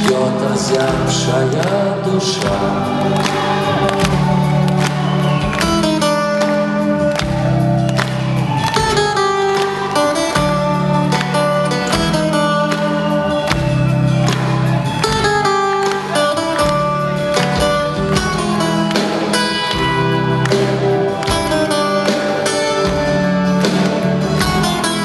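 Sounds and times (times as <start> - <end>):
guitars strummed: 0.0 - 25.0
instrumental rock band backing: 0.0 - 25.0.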